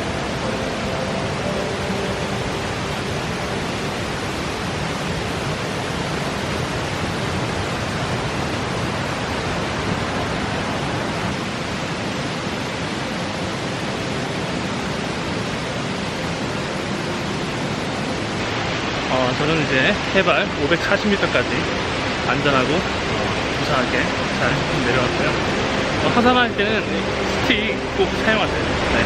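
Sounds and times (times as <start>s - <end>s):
stream rushing over rocks: 0.4s - 29.0s.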